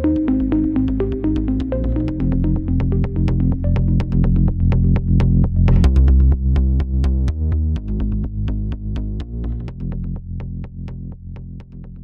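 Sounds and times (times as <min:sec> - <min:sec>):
electronic music with drum-machine beat: 0:00.0 - 0:12.0.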